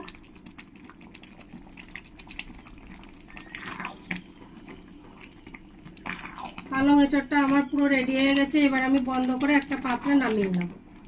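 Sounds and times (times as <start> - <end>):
curry bubbling and popping: 0.0 - 11.0.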